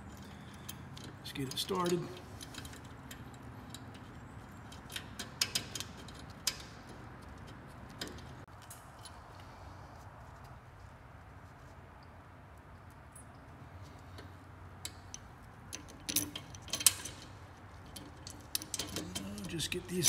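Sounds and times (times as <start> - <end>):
faint steady background noise: 0.0 - 20.0
small metal clicks and clinks: 0.1 - 9.2, 12.8 - 20.0.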